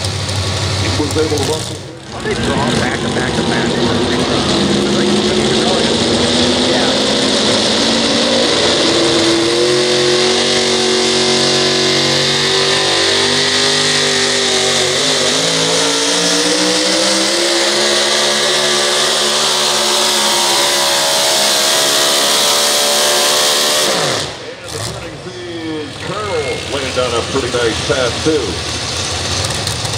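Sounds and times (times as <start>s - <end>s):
truck engine at full throttle: 0.0s - 29.9s.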